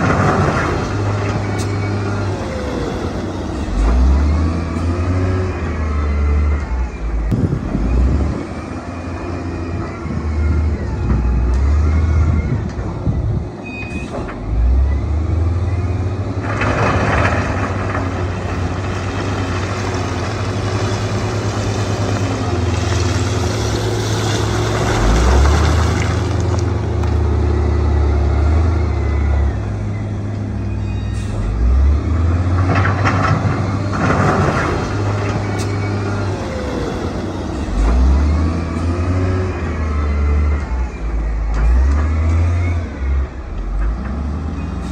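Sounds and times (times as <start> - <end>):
heavy diesel machinery droning: 0.0 - 44.9.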